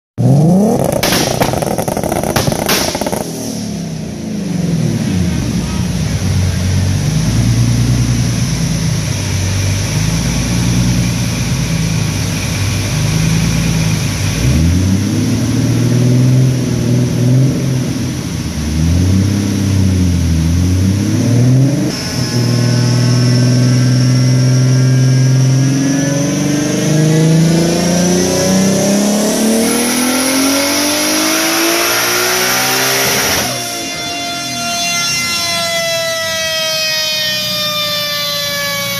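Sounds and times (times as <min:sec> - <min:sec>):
car engine revving: 0:00.2 - 0:36.8
high whine: 0:00.2 - 0:38.9.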